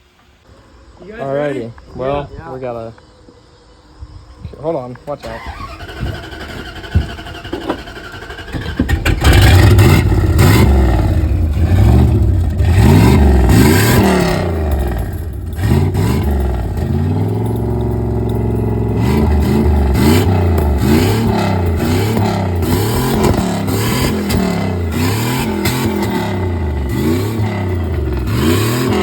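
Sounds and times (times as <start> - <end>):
pickup truck engine revving: 5.3 - 29.0.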